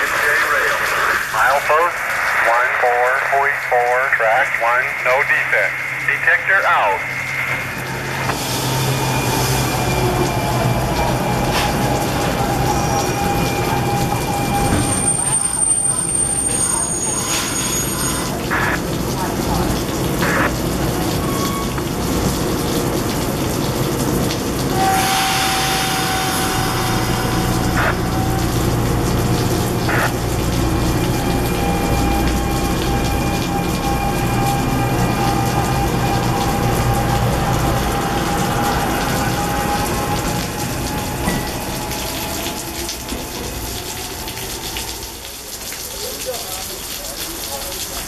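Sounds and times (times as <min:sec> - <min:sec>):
electric train rumbling and whining: 0:00.0 - 0:45.5
rain hissing: 0:00.0 - 0:48.0.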